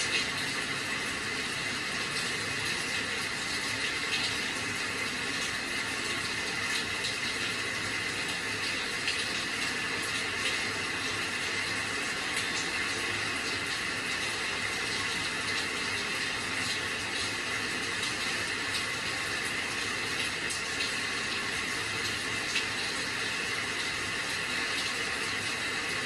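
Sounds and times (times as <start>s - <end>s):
scattered raindrops: 0.0s - 26.0s
steady rain falling: 0.0s - 26.0s.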